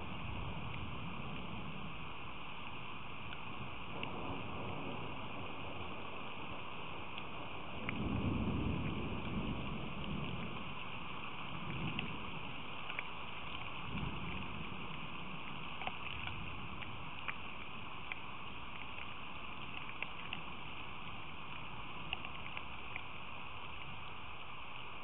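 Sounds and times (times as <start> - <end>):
rain hissing: 0.0 - 25.0
raindrops ticking: 0.0 - 25.0.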